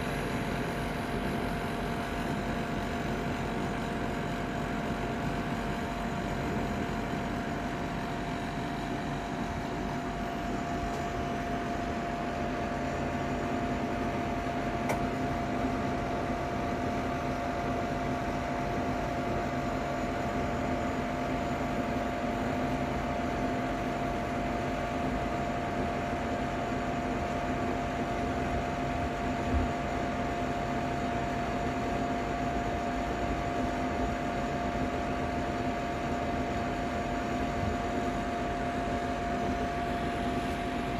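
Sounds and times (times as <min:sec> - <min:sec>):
fan hum with whine: 0:00.0 - 0:40.9.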